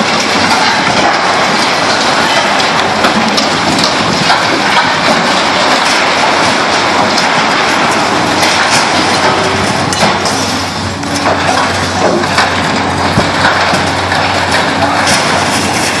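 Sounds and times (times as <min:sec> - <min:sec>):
crunching and breaking: 0:00.0 - 0:16.0
sharp knocks and cracks: 0:00.0 - 0:16.0.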